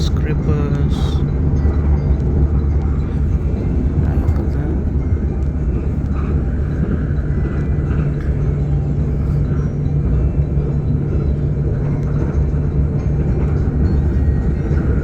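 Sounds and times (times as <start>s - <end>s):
constant hum: 0.0s - 15.0s
train rumbling on track: 0.0s - 15.0s.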